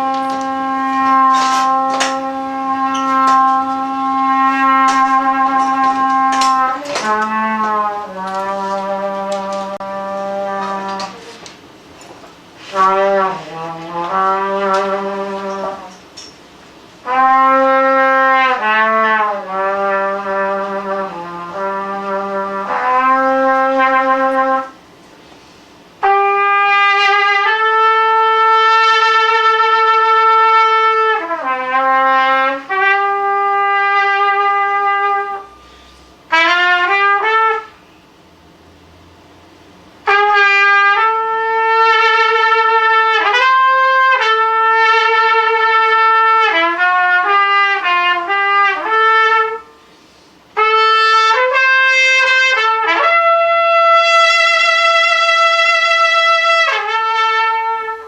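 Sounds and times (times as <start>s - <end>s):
solo brass instrument melody: 0.0s - 11.6s, 12.5s - 16.3s, 17.0s - 24.9s, 26.0s - 35.6s, 36.3s - 38.1s, 40.0s - 49.8s, 50.5s - 58.0s.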